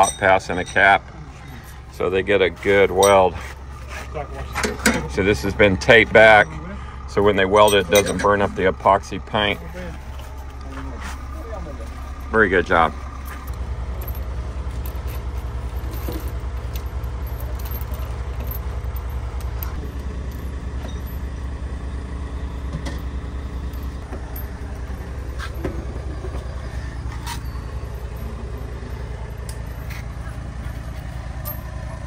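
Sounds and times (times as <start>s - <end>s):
metal bolts clinking: 0.0s - 3.8s, 4.4s - 6.5s, 7.2s - 9.2s, 12.0s - 21.5s, 22.7s - 32.0s
diesel engine throbbing: 0.0s - 32.0s.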